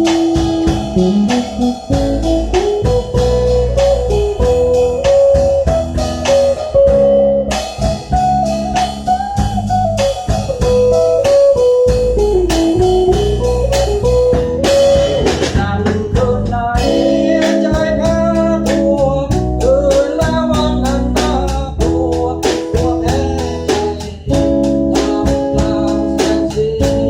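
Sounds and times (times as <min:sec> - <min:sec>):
drum kit beat: 0:00.0 - 0:27.0
guitar chords: 0:00.0 - 0:27.0
organ chords: 0:00.0 - 0:27.0.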